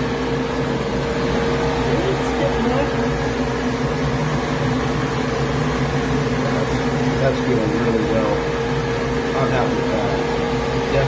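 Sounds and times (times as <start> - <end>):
loud blasting machinery humming: 0.0 - 11.0.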